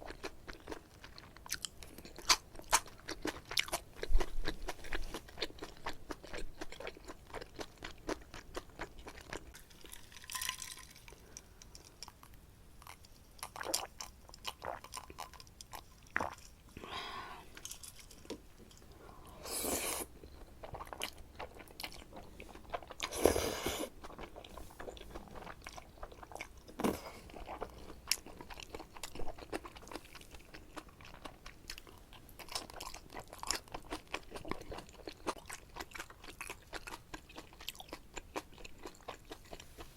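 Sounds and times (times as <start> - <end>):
chewing noodles: 0.0 - 16.7, 17.6 - 39.9.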